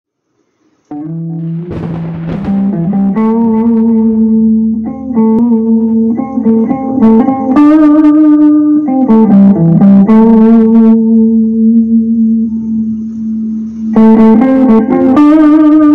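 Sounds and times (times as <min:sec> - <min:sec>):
electric guitar melody: 0:00.9 - 0:15.9.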